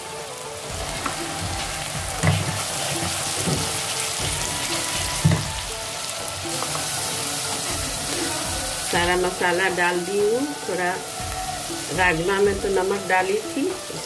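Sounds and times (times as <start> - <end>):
sauce sizzling in oil: 0.0 - 14.0
spatula stirring in pan: 0.6 - 12.9.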